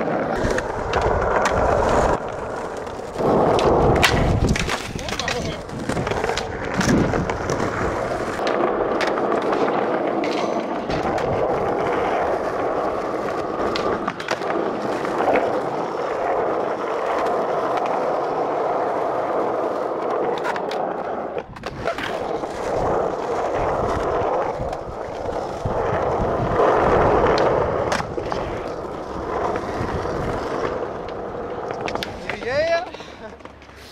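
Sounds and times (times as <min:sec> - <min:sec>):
skateboard popping and landing: 0:00.0 - 0:33.8
skateboard wheels rolling: 0:00.0 - 0:33.9.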